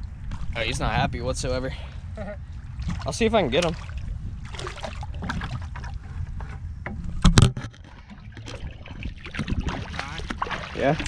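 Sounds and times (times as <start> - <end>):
water sloshing and splashing: 0.0 - 1.1, 1.8 - 11.0.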